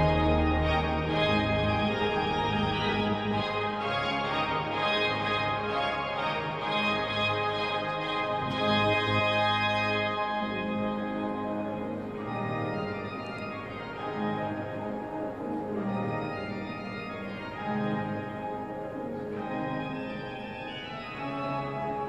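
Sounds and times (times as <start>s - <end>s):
pipe organ playing chords: 0.0s - 22.0s.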